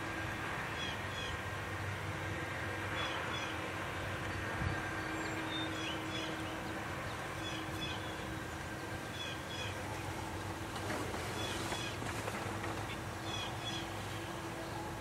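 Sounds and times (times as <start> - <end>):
low hum: 0.0 - 15.0
distant songbirds chirping: 0.2 - 15.0.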